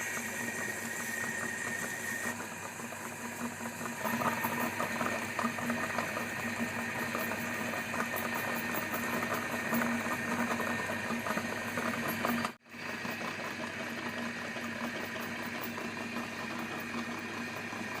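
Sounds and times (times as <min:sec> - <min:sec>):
electric meat grinder motor humming: 0:00.0 - 0:18.0.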